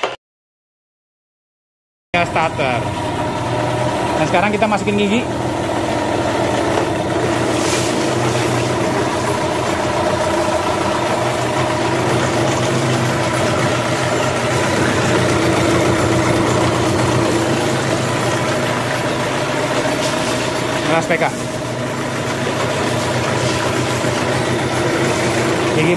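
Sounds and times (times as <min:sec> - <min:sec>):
outboard motor running: 0:02.2 - 0:25.9
propeller churning water: 0:02.2 - 0:25.9.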